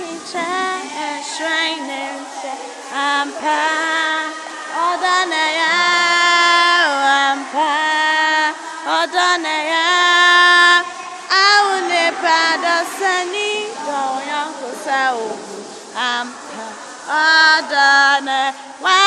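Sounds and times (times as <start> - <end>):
woman singing slow melody: 0.0 - 19.0.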